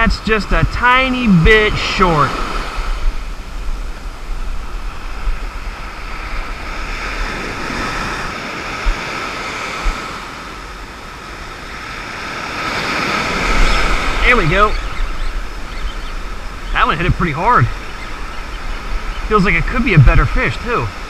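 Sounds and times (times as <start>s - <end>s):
surf breaking on sand: 0.0s - 21.0s
wind rumbling on microphone: 0.0s - 21.0s.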